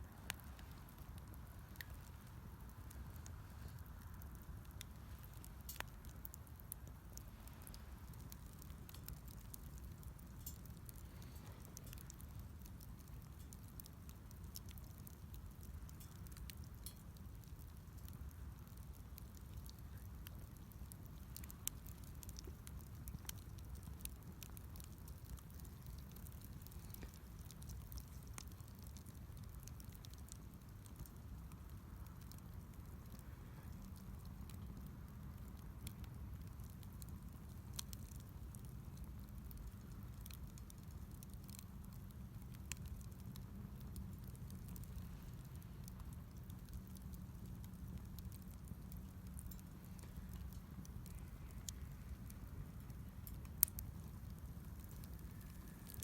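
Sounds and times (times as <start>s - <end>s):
wood fire crackling pops: 0.1s - 56.0s.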